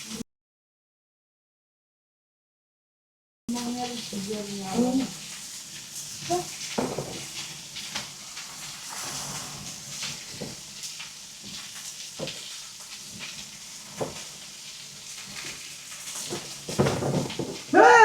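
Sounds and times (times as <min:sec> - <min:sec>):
food sizzling on hot slab: 0:00.0 - 0:00.2, 0:03.5 - 0:18.0.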